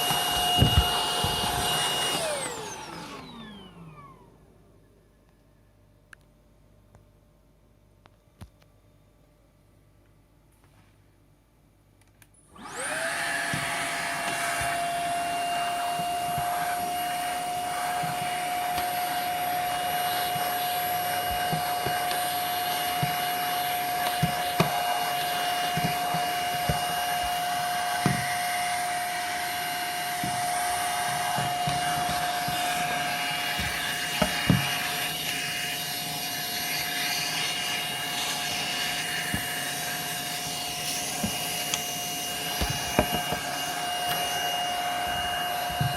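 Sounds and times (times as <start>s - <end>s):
vacuum motor whining: 0.0s - 4.6s, 12.4s - 45.9s.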